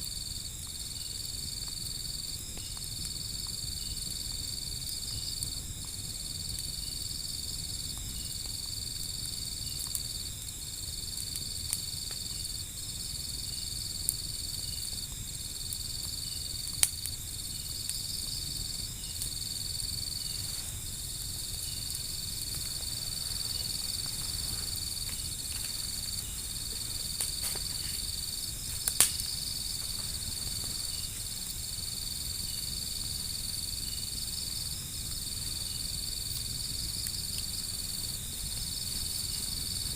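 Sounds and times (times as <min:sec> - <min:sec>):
insects chirring: 0:00.0 - 0:39.9
wood fire popping: 0:00.1 - 0:39.9.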